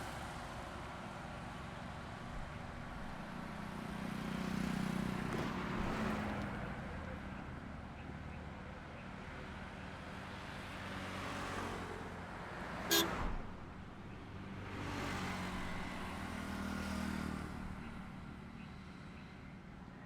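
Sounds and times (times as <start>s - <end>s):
vehicles passing on highway: 0.0s - 20.0s.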